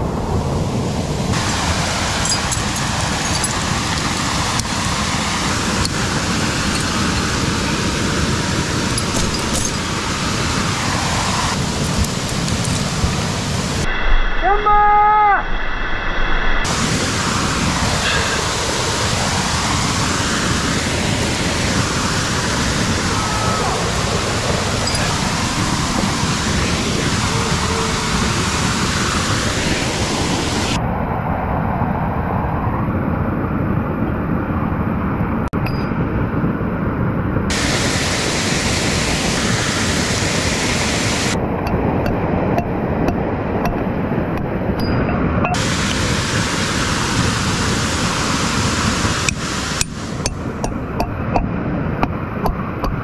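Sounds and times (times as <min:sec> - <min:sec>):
waterfall roaring: 0:00.0 - 0:15.5, 0:16.3 - 0:53.0.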